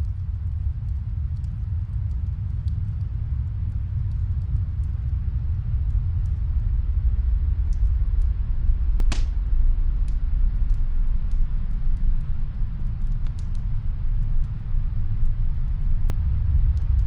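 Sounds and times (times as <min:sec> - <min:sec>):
snowstorm wind rumble: 0:00.0 - 0:17.0
wood fire crackling: 0:00.0 - 0:17.0.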